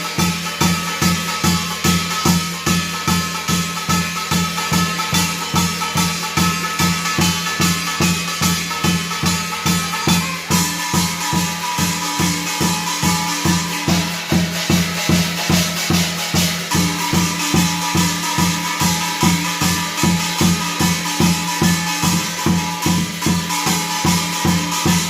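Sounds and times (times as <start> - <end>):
drum beating steadily: 0.0 - 25.0
jingling rattle: 0.4 - 25.0.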